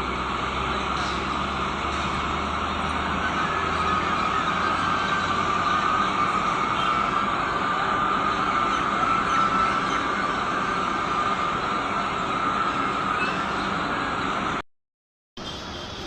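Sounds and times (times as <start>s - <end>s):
high whine: 0.0s - 14.6s
train running rumble: 0.0s - 14.6s.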